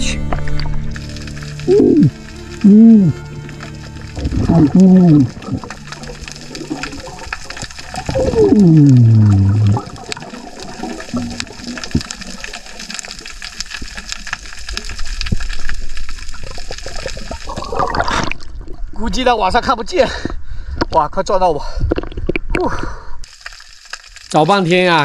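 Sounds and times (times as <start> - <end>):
water noise: 0.0 - 19.7, 21.8 - 25.0.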